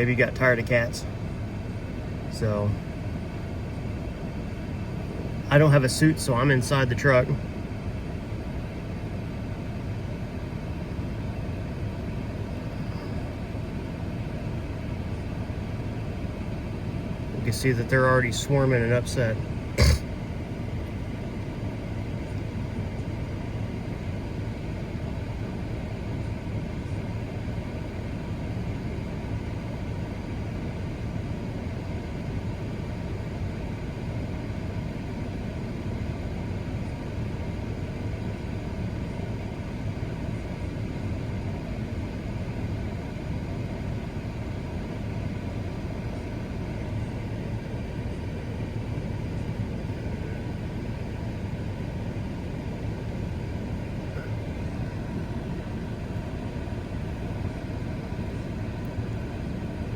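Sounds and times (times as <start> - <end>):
truck idling heard from cab: 0.0 - 59.9.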